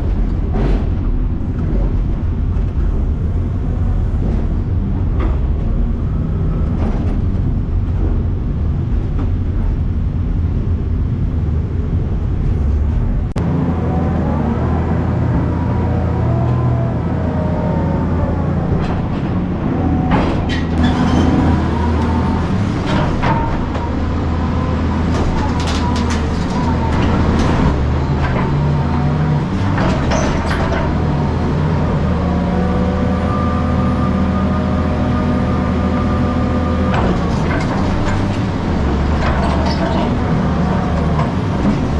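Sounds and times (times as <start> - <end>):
heavy construction machinery rumble: 0.0 - 41.9.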